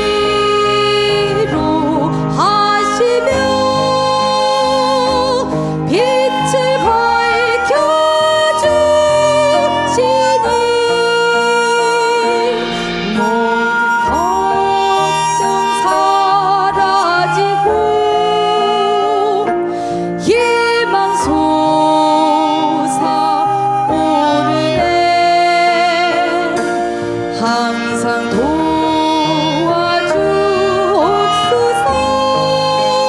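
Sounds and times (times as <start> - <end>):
traditional ensemble with piano: 0.0 - 33.0
woman singing long wavering notes: 0.0 - 33.0.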